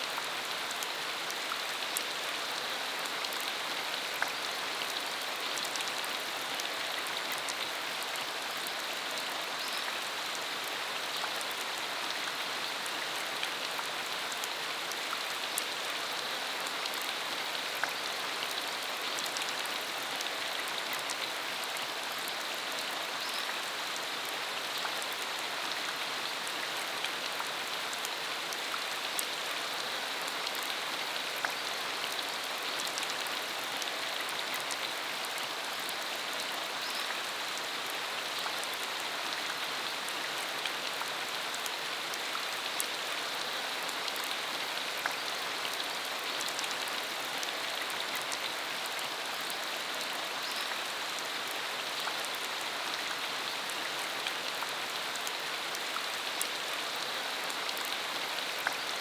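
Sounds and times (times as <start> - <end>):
rain on dirt road: 0.0 - 59.0.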